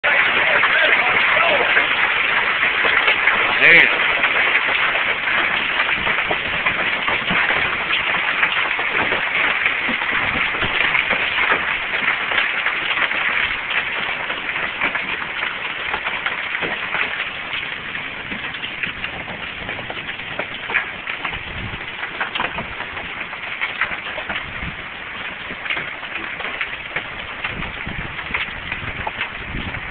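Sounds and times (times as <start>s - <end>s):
hailstones clattering: 0.0s - 29.9s.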